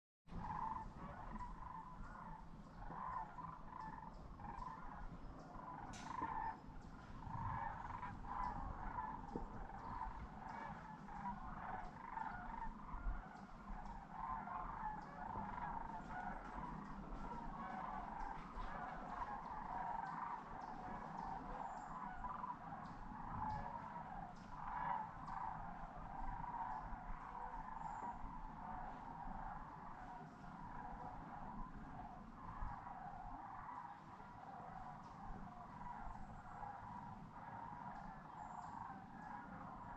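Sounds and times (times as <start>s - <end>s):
distant cranes calling: 0.3s - 39.9s.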